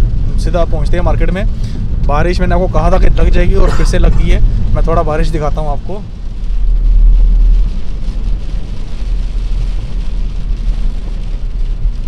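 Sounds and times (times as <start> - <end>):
rain on windshield: 0.0 - 12.0
road and engine rumble: 0.0 - 12.0.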